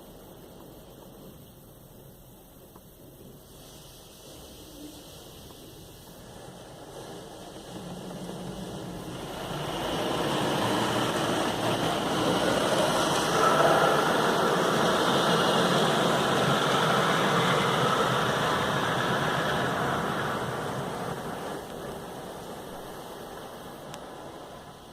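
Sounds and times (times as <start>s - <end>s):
car wash equipment rushing: 2.7s - 24.9s.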